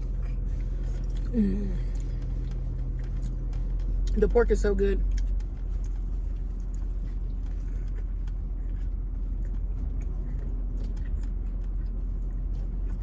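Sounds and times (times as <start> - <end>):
person chewing food: 0.0 - 4.2, 5.1 - 13.0
steady low rumble: 0.0 - 13.0.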